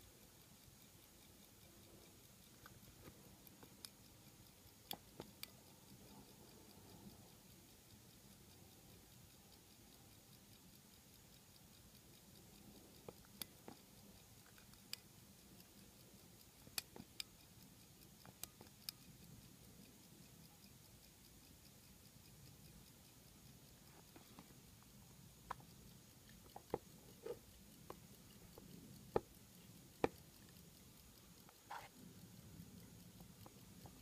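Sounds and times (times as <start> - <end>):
pocket watch ticking: 0.0 - 34.0
sharp clicks: 0.0 - 34.0.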